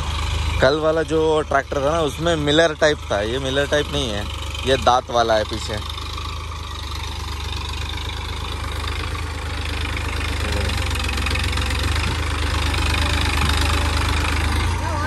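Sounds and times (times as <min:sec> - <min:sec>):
tractor diesel engine humming: 0:00.0 - 0:15.0.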